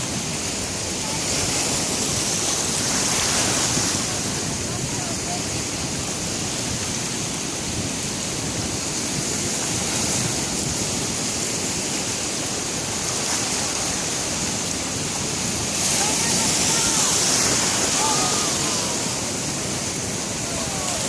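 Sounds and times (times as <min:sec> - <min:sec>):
sea surf breaking on shore: 0:00.0 - 0:21.0.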